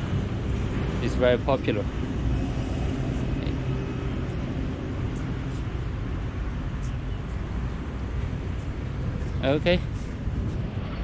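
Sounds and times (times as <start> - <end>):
distant traffic rumble: 0.0 - 11.0
wind on microphone: 0.0 - 11.0.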